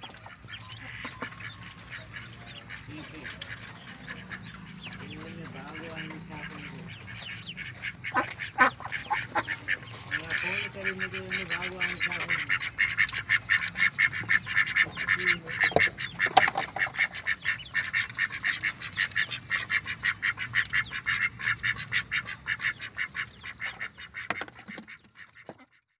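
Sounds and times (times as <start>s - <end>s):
ducks calling rapidly: 0.0s - 26.0s.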